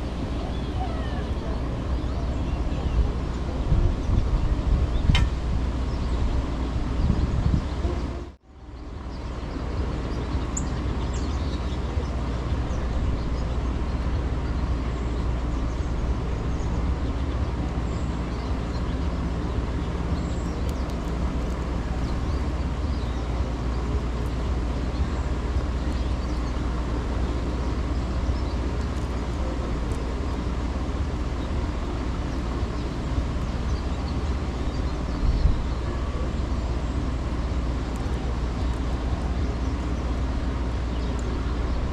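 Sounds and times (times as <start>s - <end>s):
distant traffic: 0.0s - 41.9s
wind rumble: 0.0s - 41.9s.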